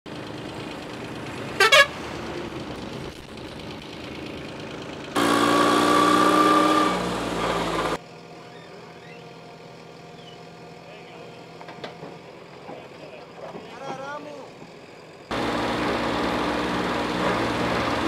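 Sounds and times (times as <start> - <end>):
diesel engines running: 0.1 - 18.0.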